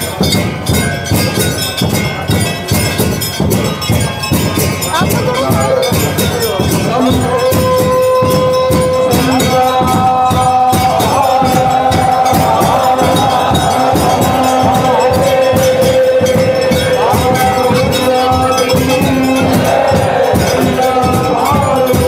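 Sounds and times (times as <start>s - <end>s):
bells and metal percussion clanging: 0.0s - 22.0s
crowd chanting and calling out: 0.0s - 22.0s.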